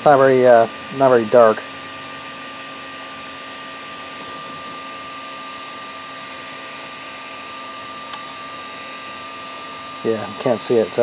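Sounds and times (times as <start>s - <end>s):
electric cooling fans whirring: 0.0s - 11.0s
thin steady whine: 0.0s - 11.0s.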